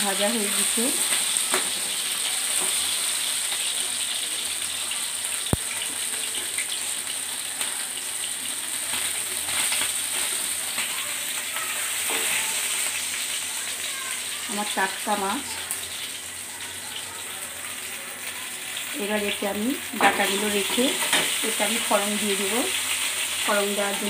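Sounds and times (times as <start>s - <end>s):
fish frying in oil: 0.0s - 24.0s.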